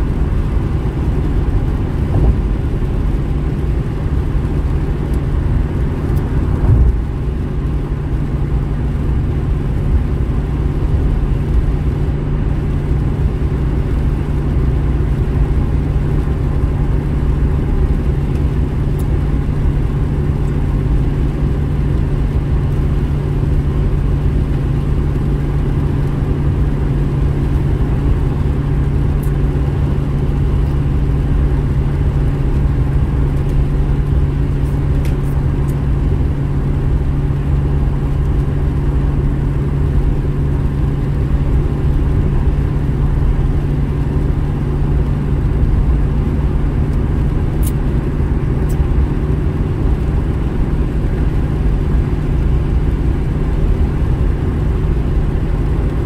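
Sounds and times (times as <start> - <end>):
car cabin drive noise: 0.0 - 56.0
tyres on wet road: 0.0 - 56.0.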